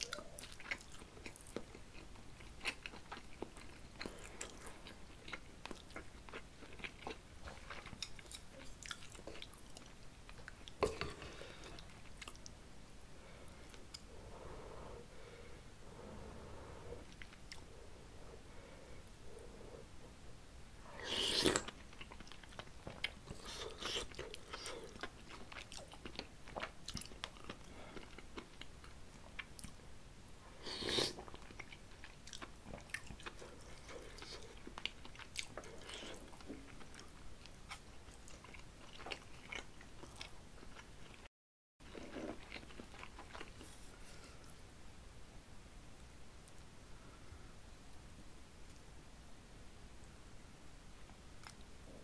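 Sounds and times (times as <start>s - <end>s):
man chewing food: 0.0s - 12.6s, 13.4s - 20.2s, 20.9s - 29.8s, 30.6s - 44.6s.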